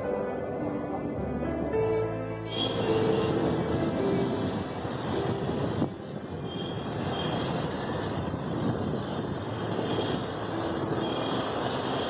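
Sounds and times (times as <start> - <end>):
wind blowing across microphone: 0.4 - 12.0.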